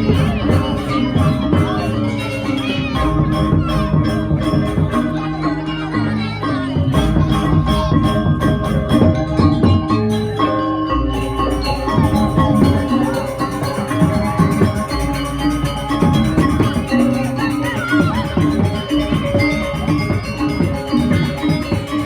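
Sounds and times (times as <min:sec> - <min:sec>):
gamelan metal percussion: 0:00.0 - 0:22.0.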